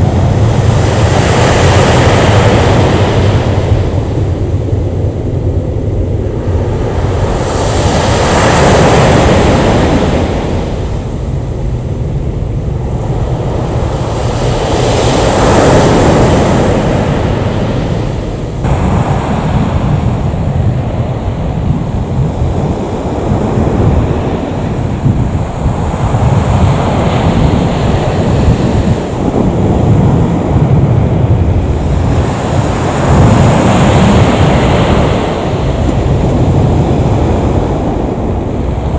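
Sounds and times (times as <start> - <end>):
jet engine roar: 0.0 - 38.9
low rumble: 1.8 - 38.9.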